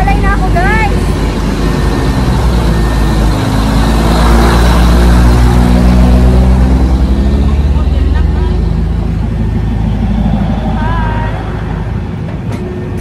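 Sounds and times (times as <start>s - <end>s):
train diesel engine rumble: 0.0s - 13.0s.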